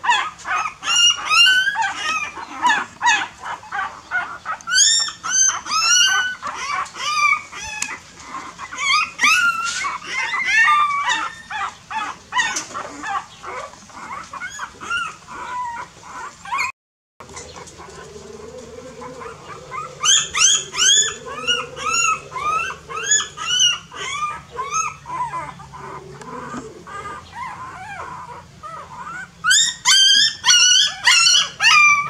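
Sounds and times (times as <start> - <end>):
puppies whining and squealing: 0.0 - 32.0.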